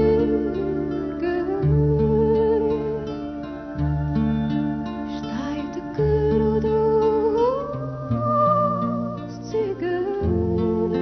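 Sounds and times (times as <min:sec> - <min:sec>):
woman singing a lullaby: 0:00.0 - 0:04.5, 0:05.1 - 0:11.0
low instrumental accompaniment: 0:00.0 - 0:11.0.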